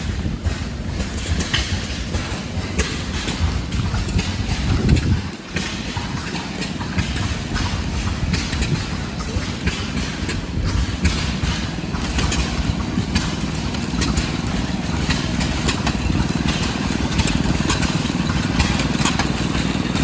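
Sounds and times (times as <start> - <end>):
old gas engines running: 0.0 - 20.0
sharp engine knocks: 0.0 - 20.0.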